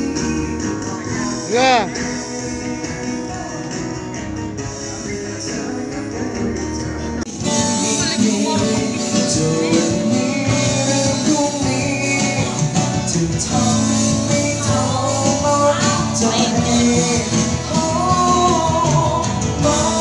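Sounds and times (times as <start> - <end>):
song with singer: 0.0 - 20.0.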